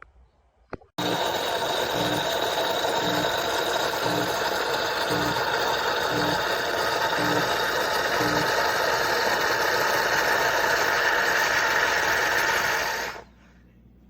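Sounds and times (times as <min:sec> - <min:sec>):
coffee machine whirring: 0:01.0 - 0:13.4.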